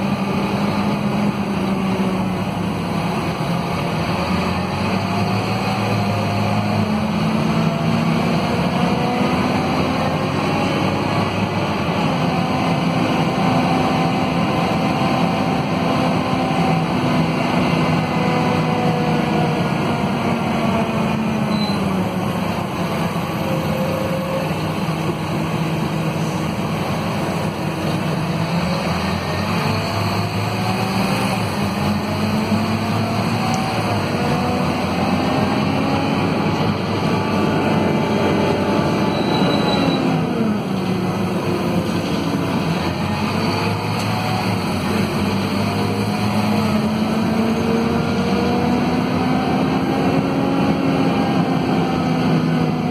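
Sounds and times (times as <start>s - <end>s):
bus engine from inside cabin: 0.0s - 52.9s.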